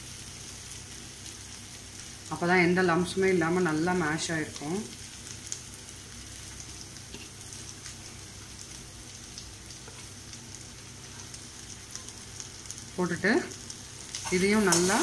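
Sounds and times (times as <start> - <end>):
oil frying sizzle: 0.0 - 15.0.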